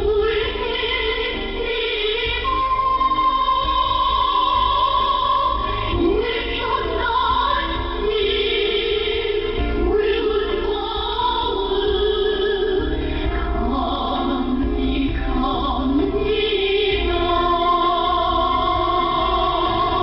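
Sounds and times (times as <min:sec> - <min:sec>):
choral singing over radio: 0:00.0 - 0:13.0, 0:13.6 - 0:20.0.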